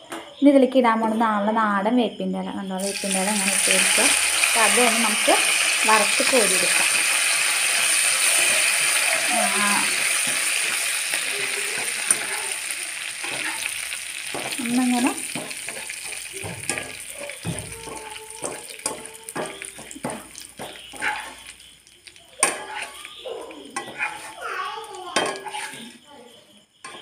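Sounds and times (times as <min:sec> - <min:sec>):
leaves sizzling in hot oil: 0:02.8 - 0:26.0
skimmer scraping against pan: 0:02.9 - 0:21.8, 0:22.4 - 0:24.4, 0:25.1 - 0:26.0.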